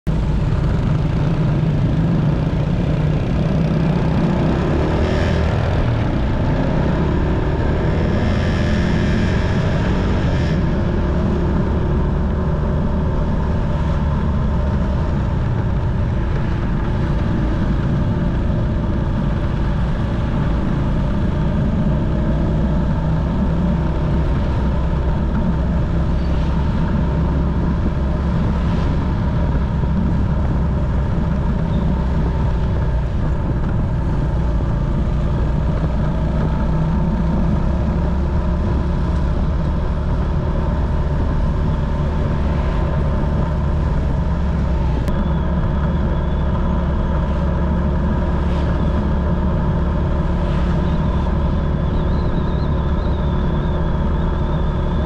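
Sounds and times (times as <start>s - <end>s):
motorcycle engine running: 0.1s - 55.0s
wind rushing over microphone: 0.1s - 55.0s.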